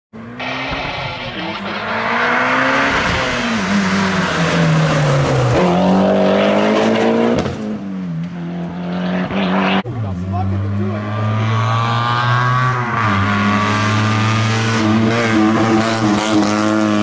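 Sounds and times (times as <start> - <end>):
rally car engine revving: 0.2 - 17.0.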